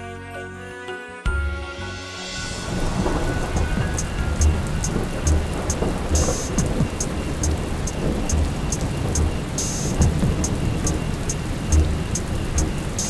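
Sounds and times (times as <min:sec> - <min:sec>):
heavy rain pouring: 0:02.3 - 0:13.0
thunder rumbling: 0:02.4 - 0:13.0.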